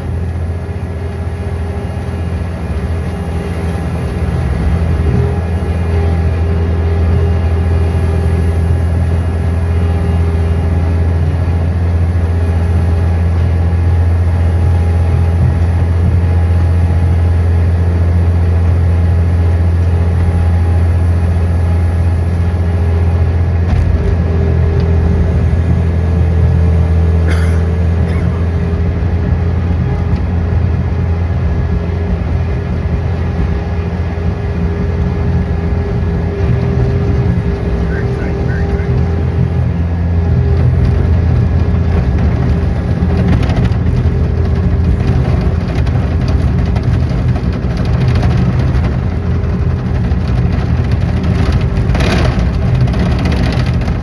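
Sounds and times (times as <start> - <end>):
engine running with deep hum: 0.0 - 54.0.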